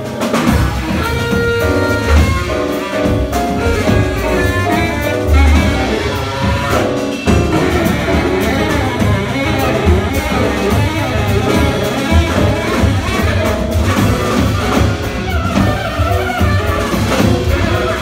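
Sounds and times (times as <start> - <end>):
baritone saxophone: 0.0 - 18.0
double bass line: 0.0 - 18.0
drum kit: 0.0 - 18.0
piano: 0.0 - 18.0.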